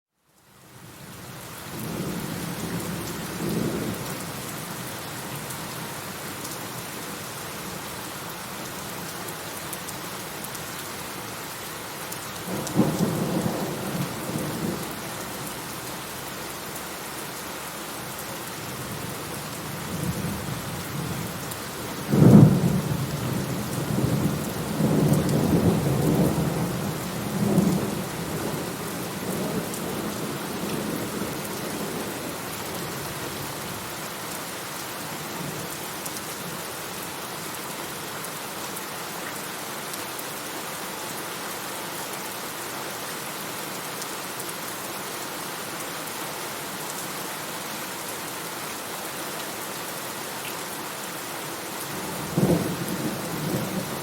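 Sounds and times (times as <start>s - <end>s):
heavy rain falling: 0.4s - 54.0s.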